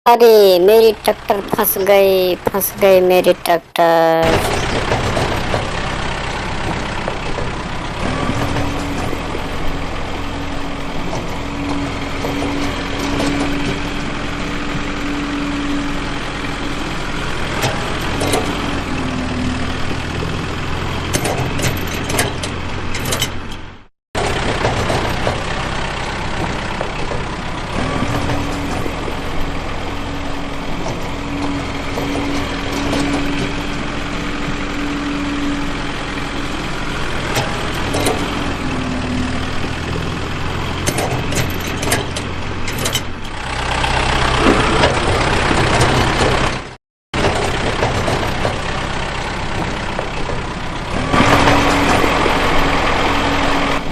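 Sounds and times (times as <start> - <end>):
tractor engine running: 0.1 - 53.9.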